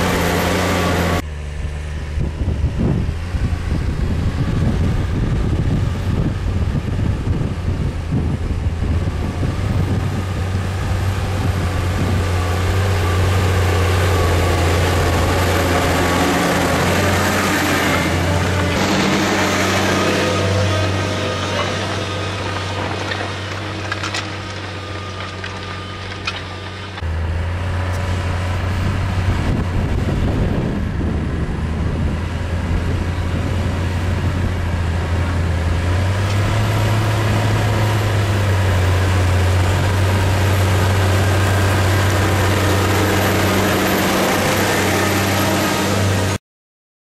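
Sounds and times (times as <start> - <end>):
tractor diesel engine droning: 0.0 - 46.4.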